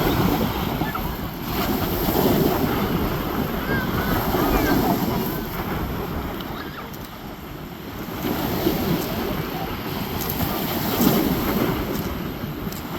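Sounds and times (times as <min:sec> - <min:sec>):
waves washing on shore: 0:00.0 - 0:12.9
wind rumbling on microphone: 0:00.0 - 0:12.9.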